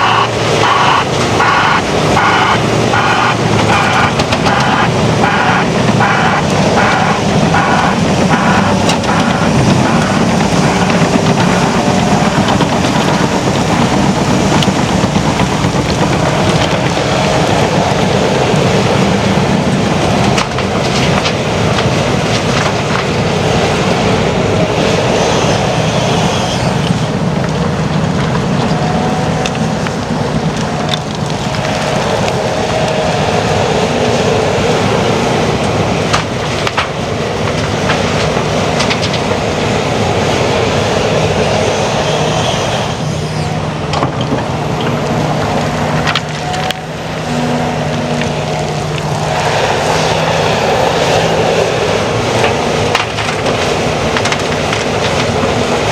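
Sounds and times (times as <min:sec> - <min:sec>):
heavy machinery diesel engines: 0:00.0 - 0:55.9.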